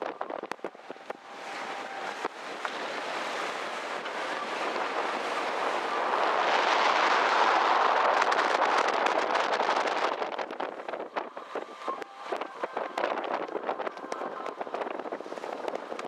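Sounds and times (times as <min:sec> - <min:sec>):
water rushing past boat: 0:00.0 - 0:16.0
wind rushing: 0:02.8 - 0:16.0.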